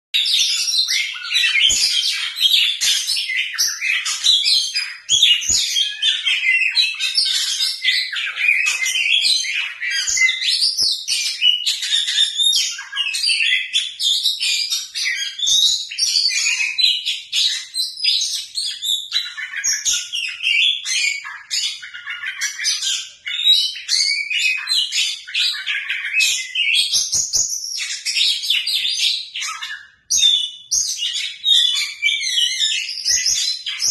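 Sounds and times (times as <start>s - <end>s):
bird singing whistles and trills: 0.2s - 33.9s.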